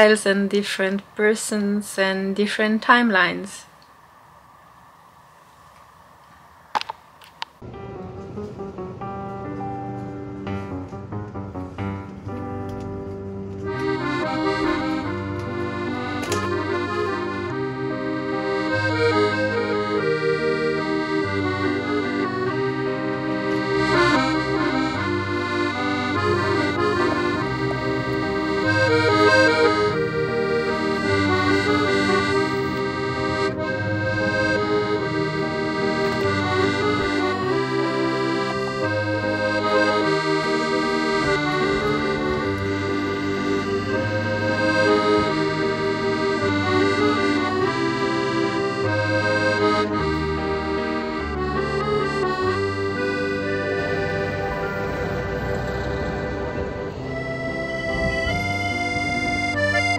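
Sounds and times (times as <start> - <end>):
accordion music: 0.0 - 3.4, 7.6 - 59.9.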